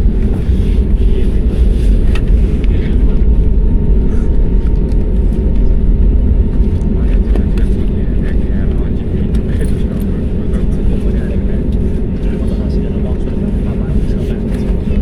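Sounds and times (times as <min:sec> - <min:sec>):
jet cabin low rumble: 0:00.0 - 0:15.0.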